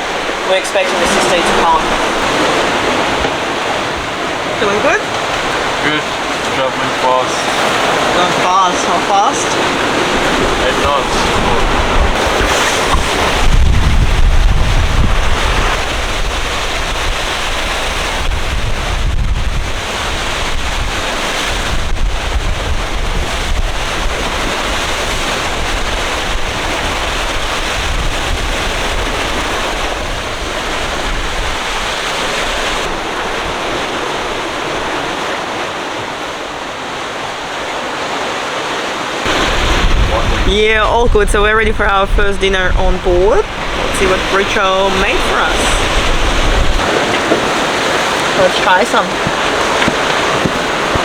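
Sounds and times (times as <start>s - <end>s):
water rushing along boat hull: 0.0s - 51.0s
wind buffeting microphone: 0.0s - 51.0s.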